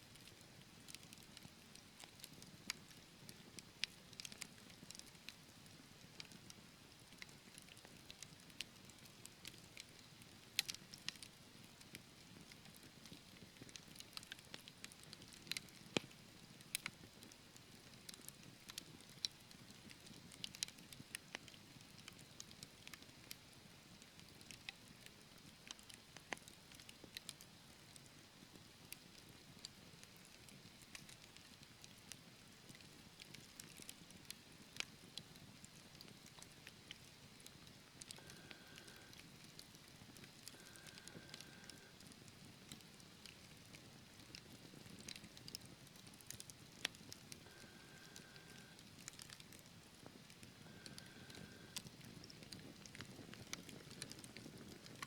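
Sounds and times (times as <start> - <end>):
low rustle of flames: 0.1 - 55.0
wood fire crackling: 0.1 - 55.0.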